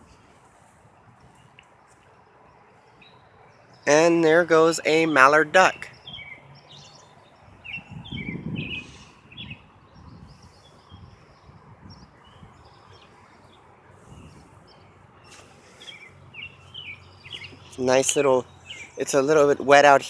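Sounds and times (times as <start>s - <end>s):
outdoor hush: 0.0s - 20.0s
small songbirds chirping: 0.0s - 20.0s.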